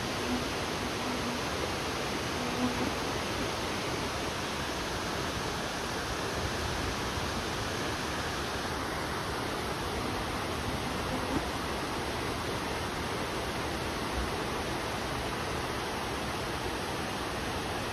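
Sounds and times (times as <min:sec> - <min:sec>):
stream rushing over rocks: 0:00.0 - 0:17.9.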